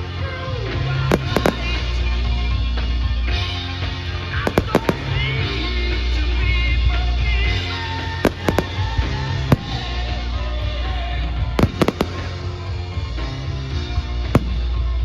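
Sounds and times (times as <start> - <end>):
fireworks bangs: 0.7 - 15.0.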